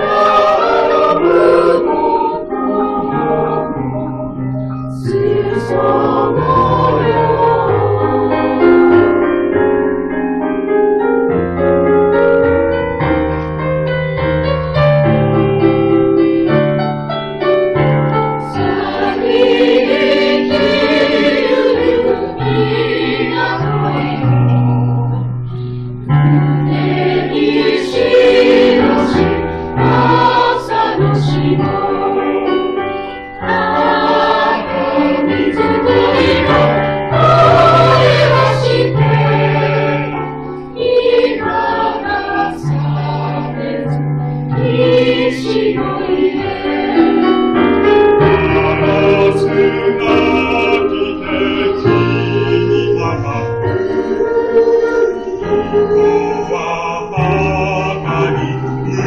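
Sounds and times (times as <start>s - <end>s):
mixed choir singing in harmony: 0.0s - 9.8s, 17.9s - 59.0s.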